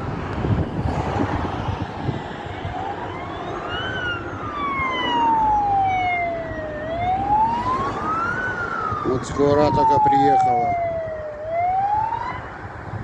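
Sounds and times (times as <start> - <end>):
siren wailing: 2.0 - 12.9.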